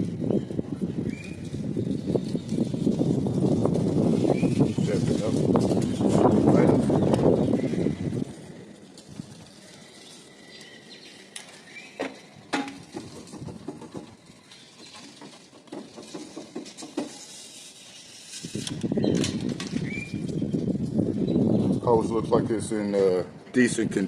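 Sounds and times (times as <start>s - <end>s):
handling noise: 1.1s - 21.2s.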